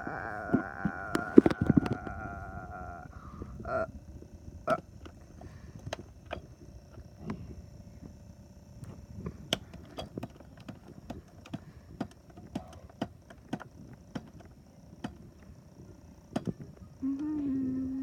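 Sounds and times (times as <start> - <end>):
low rumbling background: 0.0 - 18.0.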